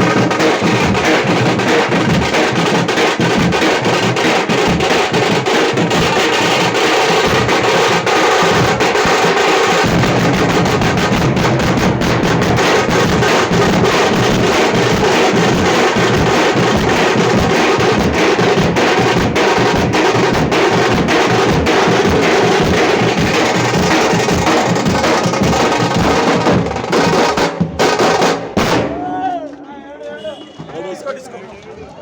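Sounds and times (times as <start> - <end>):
frame drums beaten with sticks: 0.0 - 29.2.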